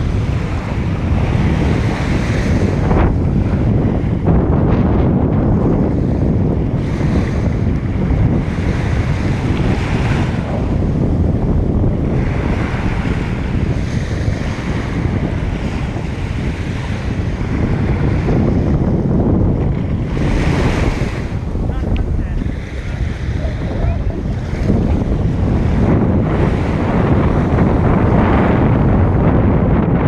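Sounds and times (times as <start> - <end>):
surf washing onto beach: 0.0 - 30.0
wind buffeting microphone: 0.0 - 30.0.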